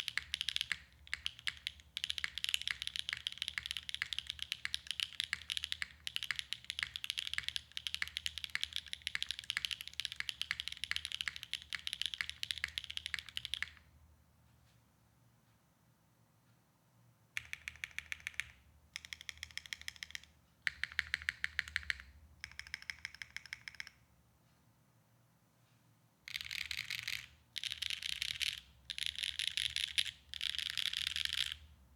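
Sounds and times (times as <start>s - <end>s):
fast mechanical keyboard typing: 0.0s - 13.8s, 17.4s - 23.9s, 26.3s - 31.6s.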